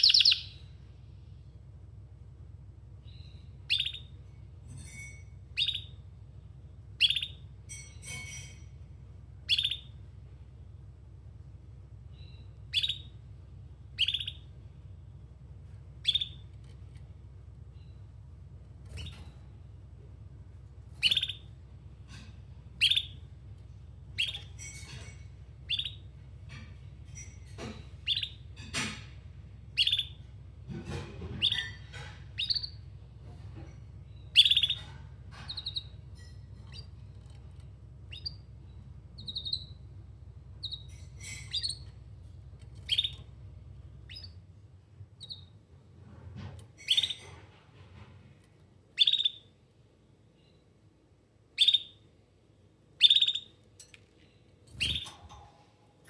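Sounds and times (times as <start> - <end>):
canary chirping and trilling: 0.0 - 0.7, 3.0 - 6.2, 7.0 - 10.1, 12.1 - 48.3, 48.9 - 49.6, 51.5 - 52.2, 52.9 - 56.0.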